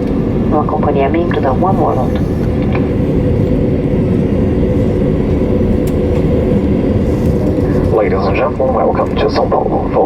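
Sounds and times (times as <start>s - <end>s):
aircraft engine noise: 0.0s - 10.0s
low hum: 0.0s - 10.0s.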